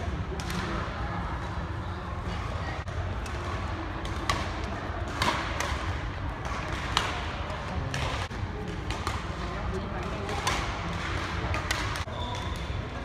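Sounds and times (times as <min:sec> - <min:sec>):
sports hall hum: 0:00.0 - 0:13.0
rackets hitting shuttlecock: 0:00.3 - 0:01.5, 0:02.9 - 0:12.7.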